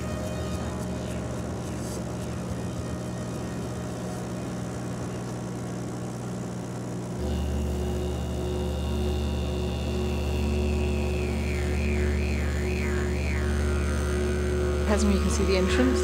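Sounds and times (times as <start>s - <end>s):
deep droning background music: 0.0s - 16.0s
vehicle engine drone: 0.0s - 16.0s.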